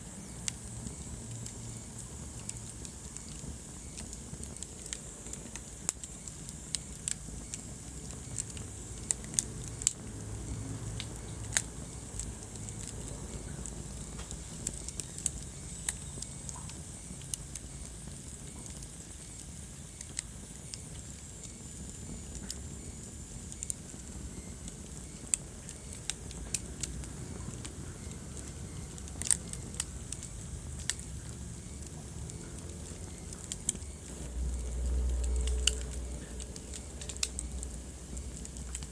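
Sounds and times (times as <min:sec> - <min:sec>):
fire crackles and pops: 0:00.0 - 0:38.9
rumble of flames: 0:00.0 - 0:38.9.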